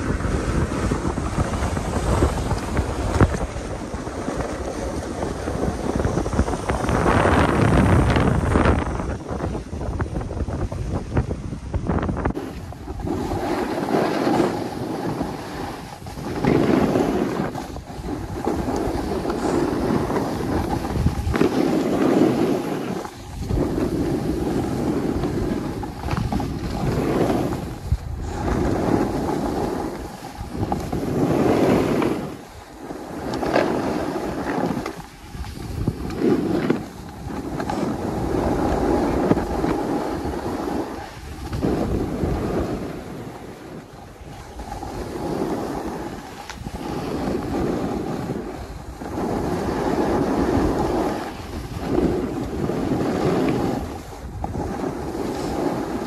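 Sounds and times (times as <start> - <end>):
skis scraping on snow: 0.0 - 56.0
wind rushing over microphone: 0.0 - 56.0.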